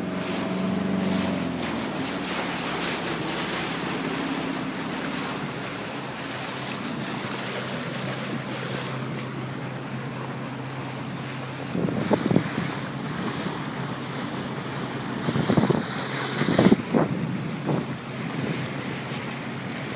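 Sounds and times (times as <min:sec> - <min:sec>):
boat engine humming: 0:00.0 - 0:19.9
wake water rushing: 0:00.0 - 0:19.9
wind buffeting microphone: 0:00.0 - 0:19.9.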